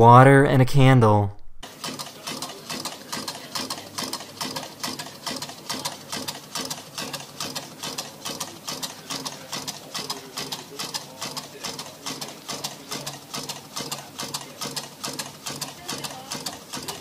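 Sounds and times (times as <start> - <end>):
small steam engine ticking: 1.6 - 17.0.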